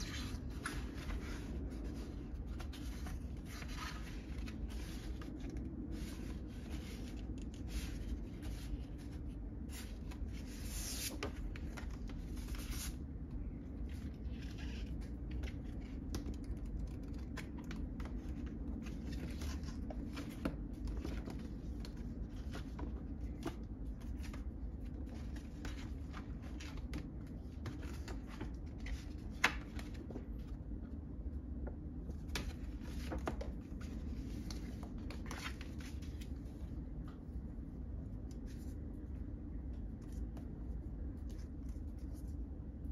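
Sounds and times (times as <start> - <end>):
paper pages rustling and sliding: 0.0 - 13.0, 13.7 - 30.6, 32.1 - 36.7
low room hum: 0.0 - 42.9.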